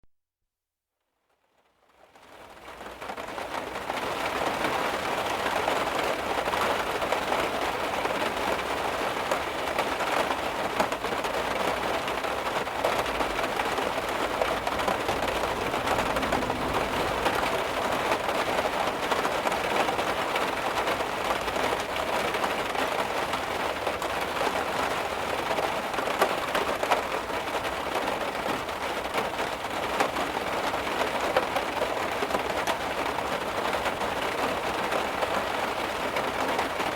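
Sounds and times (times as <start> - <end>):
heavy rain drumming on a car: 1.5 - 36.9.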